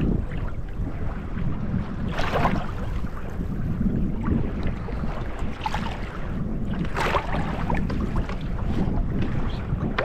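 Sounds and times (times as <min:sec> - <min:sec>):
waves splashing against kayak hull: 0:00.0 - 0:10.0
wind rumbling on microphone: 0:00.0 - 0:10.0.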